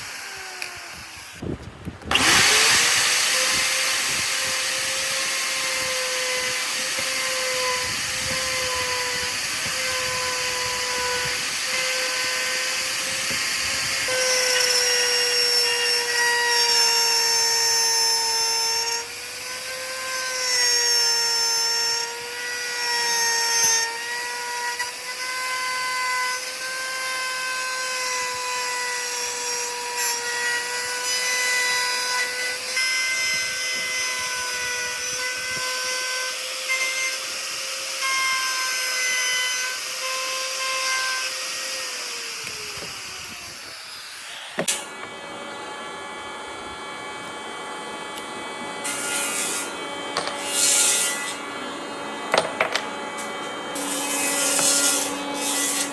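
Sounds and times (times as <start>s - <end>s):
power tool motor whine: 0.0s - 55.9s.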